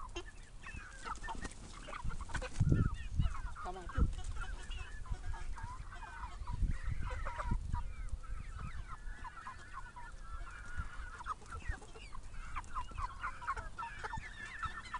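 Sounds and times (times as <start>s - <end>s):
chickens peeping and clucking: 0.0s - 14.9s.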